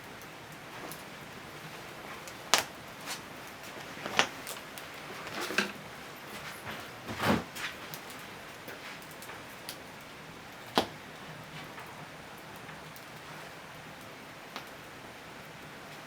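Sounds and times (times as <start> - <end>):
firewood burning with cracks: 0.0 - 16.0.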